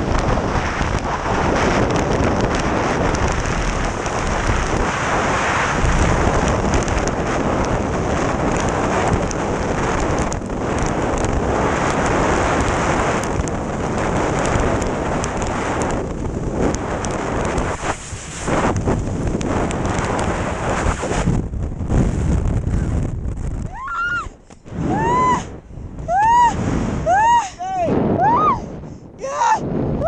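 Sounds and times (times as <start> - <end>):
wind rushing on microphone: 0.0 - 30.0.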